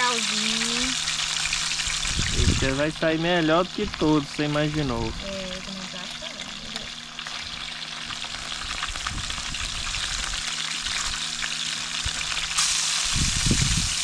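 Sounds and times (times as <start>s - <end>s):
fish frying in hot fat: 0.0s - 14.0s.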